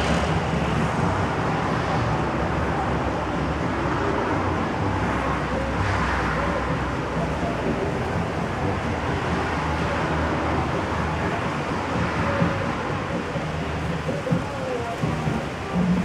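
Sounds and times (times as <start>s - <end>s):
passing car traffic: 0.0s - 16.0s.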